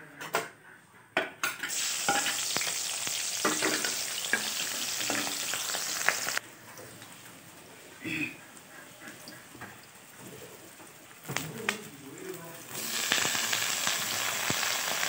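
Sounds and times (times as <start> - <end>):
onion sizzling in hot oil: 1.6 - 15.0.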